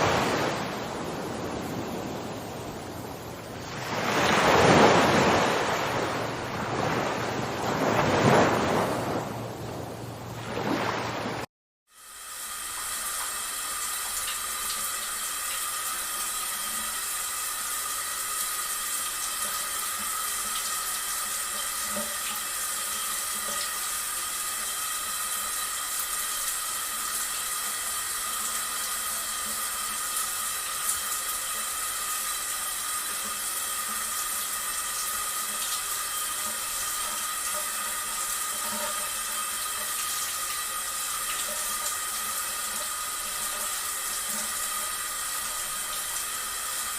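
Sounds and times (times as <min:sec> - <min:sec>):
water running and splashing: 0:00.0 - 0:09.6, 0:12.1 - 0:46.9.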